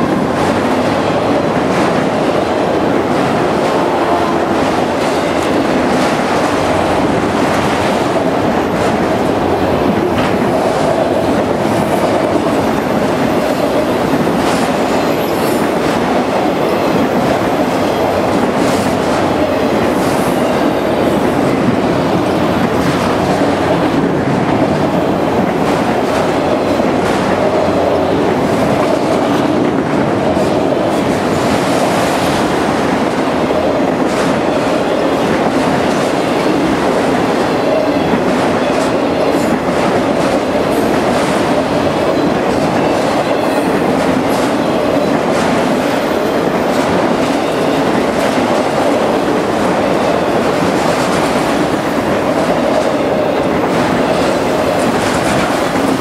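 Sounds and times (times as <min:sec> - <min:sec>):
freight train rolling past: 0:00.0 - 0:56.0
wheel-on-rail noise with clicks: 0:00.1 - 0:56.0.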